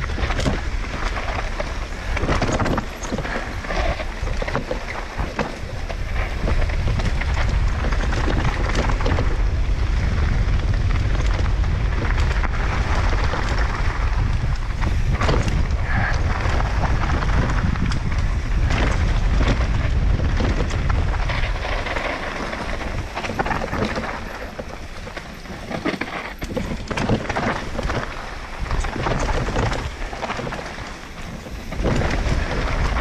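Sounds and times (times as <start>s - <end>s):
bike knocks and rattles: 0.0s - 33.0s
wind rushing over microphone: 0.0s - 33.0s.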